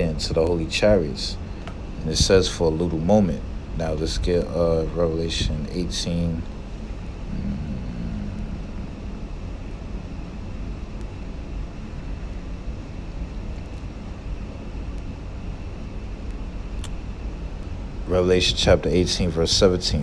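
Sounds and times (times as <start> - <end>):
air conditioning vent blowing: 0.0 - 20.0.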